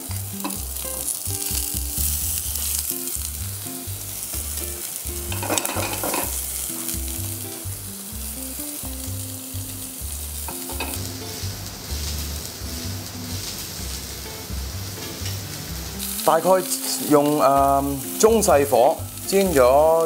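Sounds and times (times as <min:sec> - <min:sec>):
patties sizzling in hot oil: 0:00.0 - 0:20.0.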